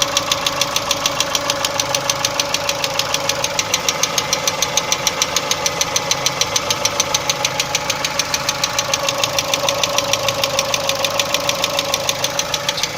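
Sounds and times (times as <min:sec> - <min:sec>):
car engine idling with knock: 0:00.0 - 0:12.9.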